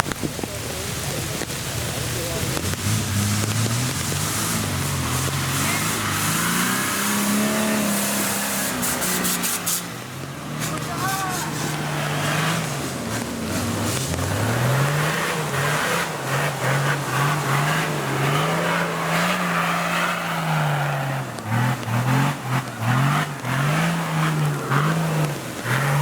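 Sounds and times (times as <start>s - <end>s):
steady hiss: 0.0s - 20.9s
engine revving hard: 2.2s - 26.0s.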